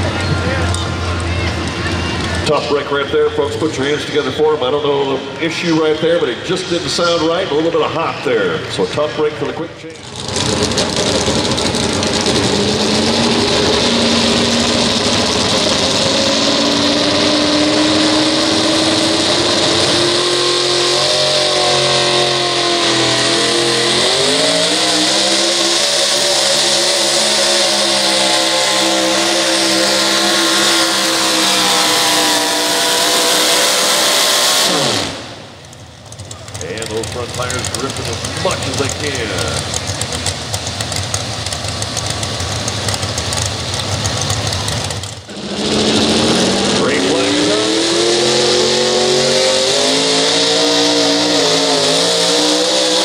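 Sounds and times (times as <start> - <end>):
truck engine at high revs: 0.0 - 53.0.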